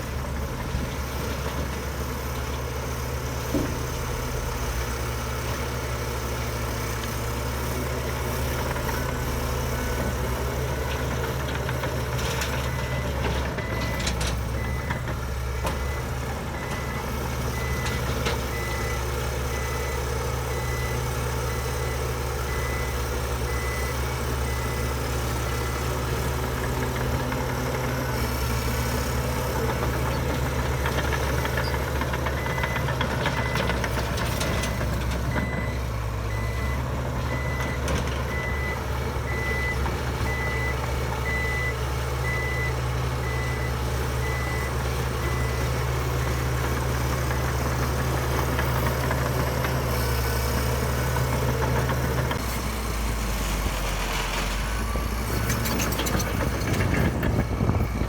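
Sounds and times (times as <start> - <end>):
heavy diesel machinery running: 0.0 - 58.0
reversing alarm beeping: 8.4 - 52.2, 54.8 - 58.0.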